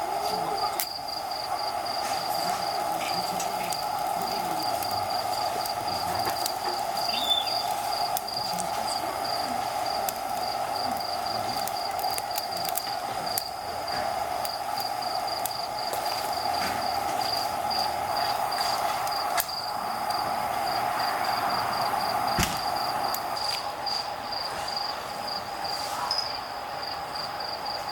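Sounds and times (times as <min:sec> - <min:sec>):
crickets chirping: 0:00.0 - 0:27.9
low hiss: 0:00.0 - 0:27.9.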